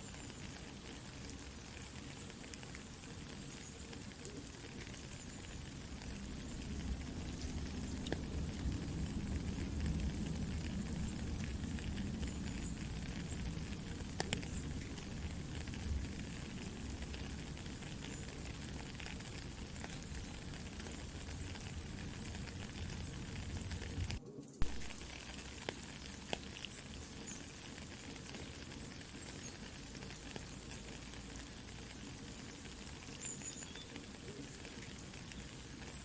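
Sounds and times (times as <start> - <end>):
campfire crackling: 0.0 - 36.0
soft steady rain: 0.0 - 36.0.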